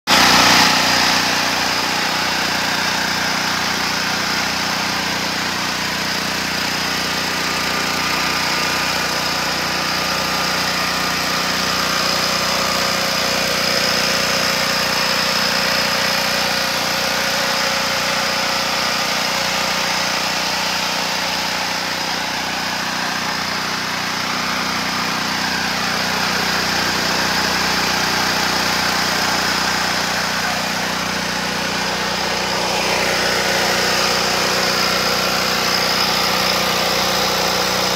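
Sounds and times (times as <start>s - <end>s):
generator engine running: 0.0s - 37.9s.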